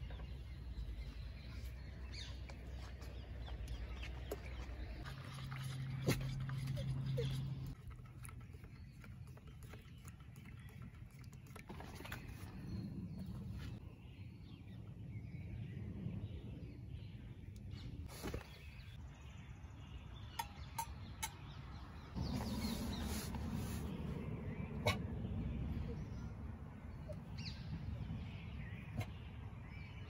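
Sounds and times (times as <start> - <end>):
outdoor ambience: 0.0 - 30.0.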